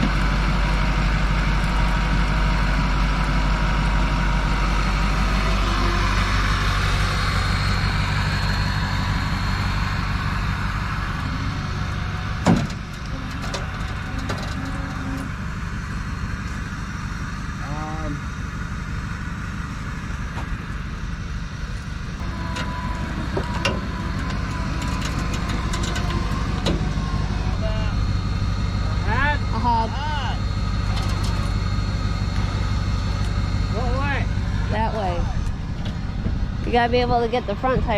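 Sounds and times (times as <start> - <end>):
truck engine idling: 0.0 - 37.9.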